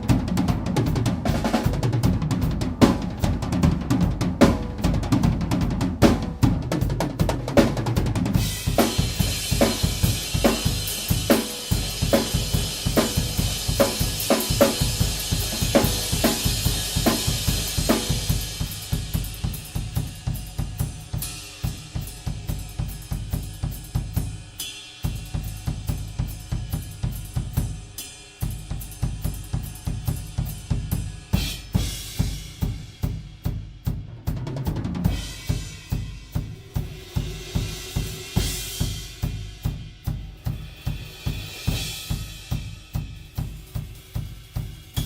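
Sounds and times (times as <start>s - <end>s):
rapid bass drum strokes: 0.0s - 45.0s
snare and hi-hat: 6.0s - 45.0s.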